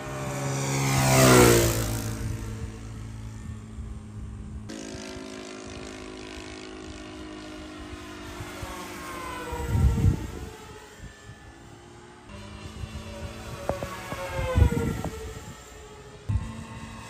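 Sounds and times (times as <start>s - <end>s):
model aircraft motor whining: 0.0s - 17.0s.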